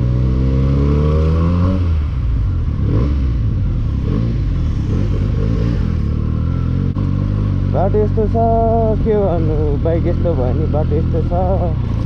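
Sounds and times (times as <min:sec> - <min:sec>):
motorcycle engine running: 0:02.1 - 0:12.0.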